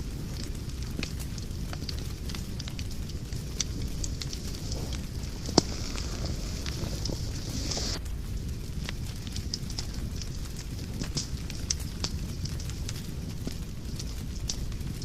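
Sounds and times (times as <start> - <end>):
fire crackling: 0.0 - 15.0
wood fire rumbling: 0.0 - 15.0
loud pop of fire: 0.4 - 15.0.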